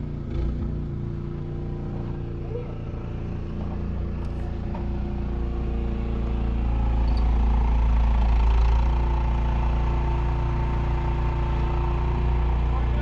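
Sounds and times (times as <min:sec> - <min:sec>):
snowblower engine running: 0:00.0 - 0:13.0.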